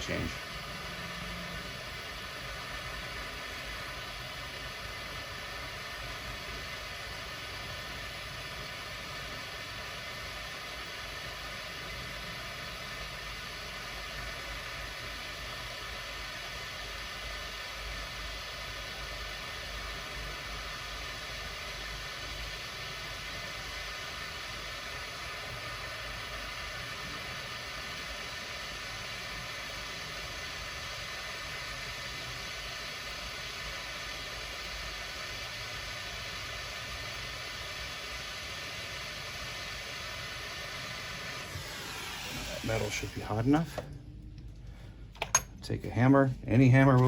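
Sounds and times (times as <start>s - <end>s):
hand torch flame hissing: 0.0s - 45.4s.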